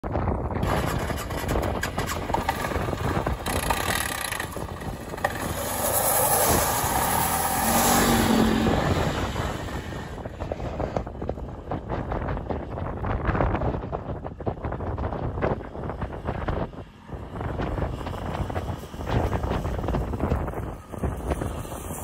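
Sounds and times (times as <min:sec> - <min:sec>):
quad bike engine running: 0:00.4 - 0:12.7, 0:15.0 - 0:22.0.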